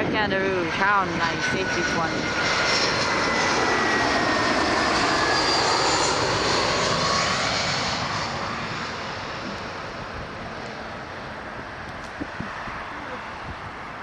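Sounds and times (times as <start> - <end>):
jet airliner passing by: 0.0 - 14.0.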